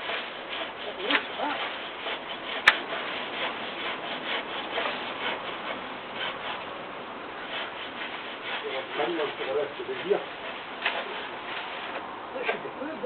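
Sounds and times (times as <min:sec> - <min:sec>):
hand saw cutting wood: 0:00.0 - 0:06.8, 0:07.4 - 0:13.0.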